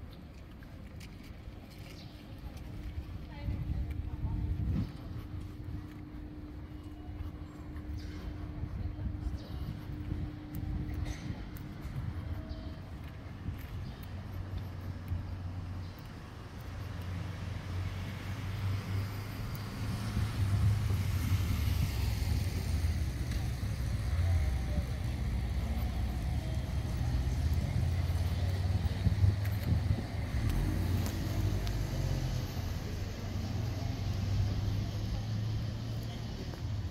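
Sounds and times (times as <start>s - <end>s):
road traffic passing: 0.0s - 36.9s.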